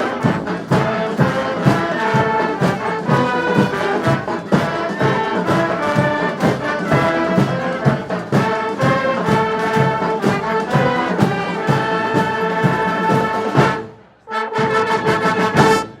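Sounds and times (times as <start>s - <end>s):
steady drum beat: 0.0s - 13.9s, 14.6s - 16.0s
brass horns playing: 0.0s - 16.0s.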